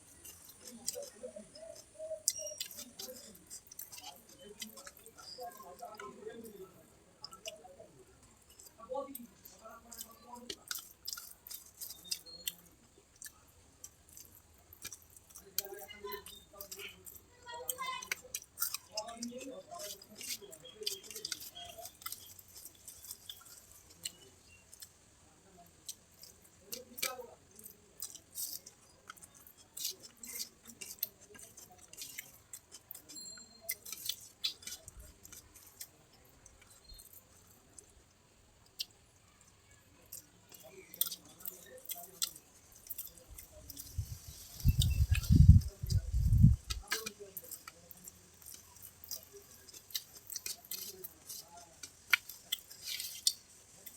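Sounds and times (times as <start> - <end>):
person chewing food: 0.0 - 25.1, 25.7 - 53.9.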